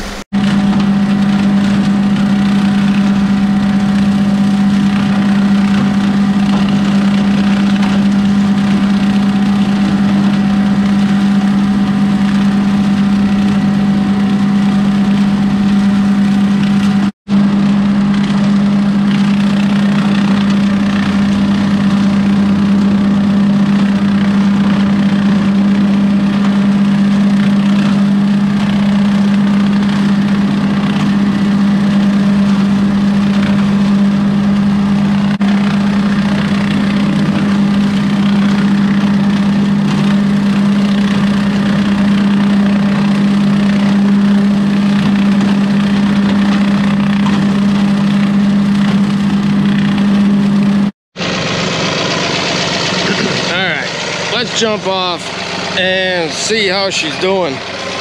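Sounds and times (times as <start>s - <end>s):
tractor and rotary cutter droning: 0.0s - 58.0s.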